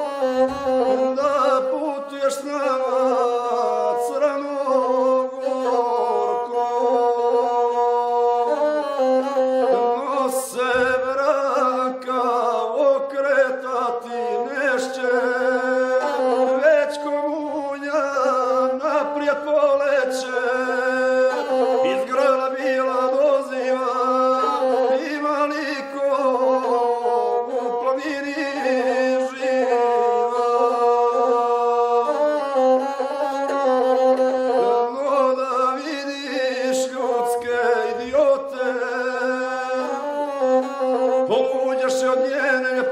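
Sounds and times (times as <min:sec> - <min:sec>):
bowed one-string fiddle droning: 0:00.0 - 0:42.9.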